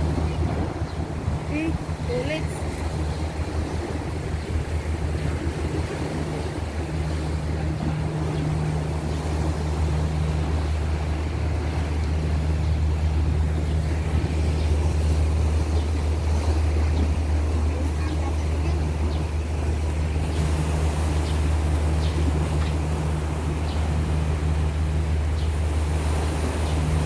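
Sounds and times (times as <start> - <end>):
motorboat engine droning: 0.0 - 27.0
water rushing: 0.0 - 27.0
wind: 0.0 - 27.0.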